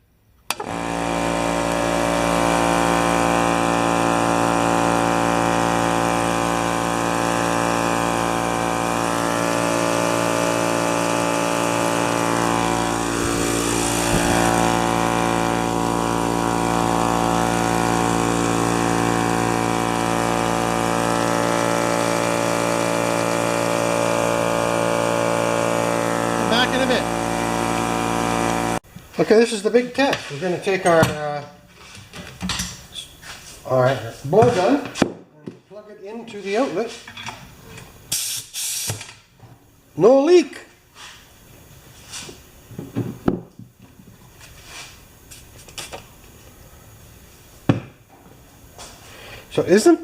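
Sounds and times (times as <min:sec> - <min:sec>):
air compressor running: 0:00.5 - 0:32.1, 0:36.2 - 0:50.0.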